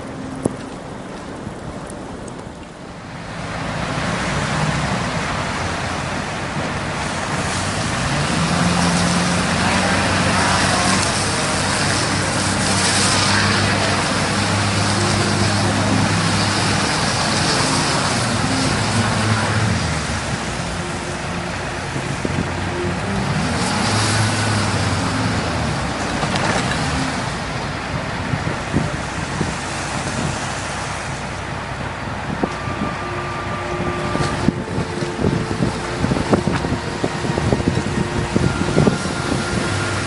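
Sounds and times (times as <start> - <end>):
city traffic noise: 0.0 - 40.0
truck engine revving: 2.8 - 40.0.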